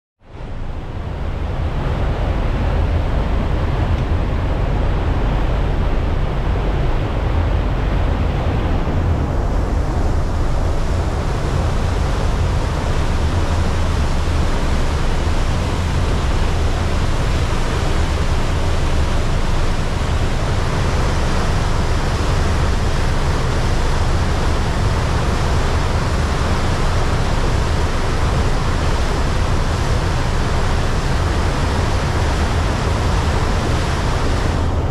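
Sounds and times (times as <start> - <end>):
ferry engine rumble: 0.2 - 34.9
rushing wake water: 0.3 - 34.9.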